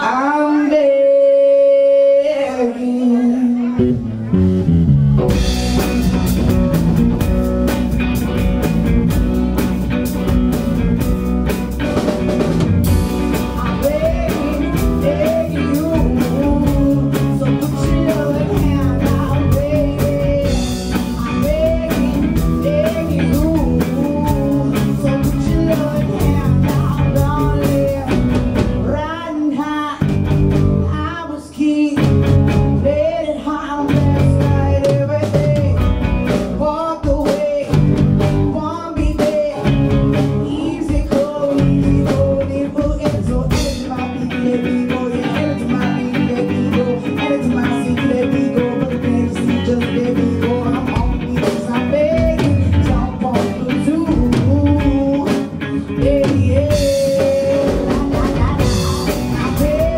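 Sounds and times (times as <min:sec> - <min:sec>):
woman singing into microphone: 0:00.0 - 0:04.0, 0:13.4 - 0:30.2, 0:30.8 - 0:59.9
live rock band playing: 0:00.0 - 0:59.9.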